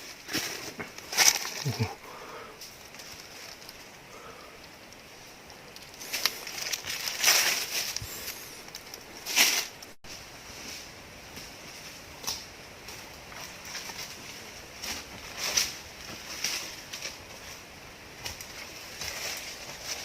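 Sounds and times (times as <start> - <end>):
crunching rustling noises: 0.0 - 2.0, 2.6 - 20.0
steady high hiss: 0.0 - 20.0.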